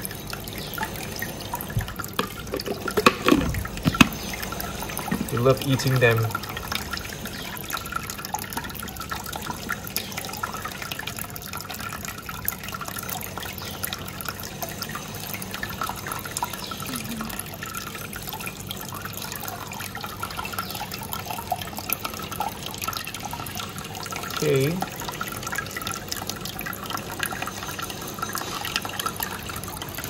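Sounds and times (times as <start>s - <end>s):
small clicks and splashes: 0.0s - 30.0s
water trickling and dripping: 0.0s - 30.0s.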